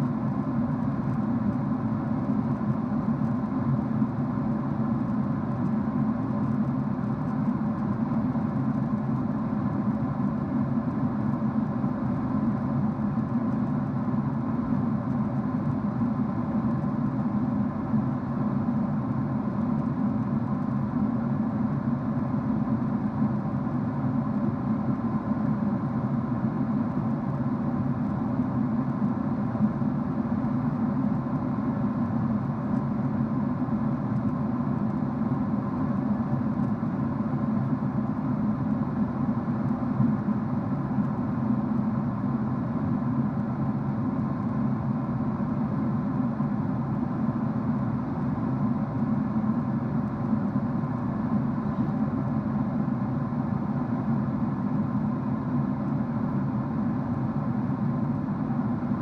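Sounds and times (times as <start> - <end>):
faint steady tones: 0.0 - 59.0
jet airliner cabin drone: 0.0 - 59.0.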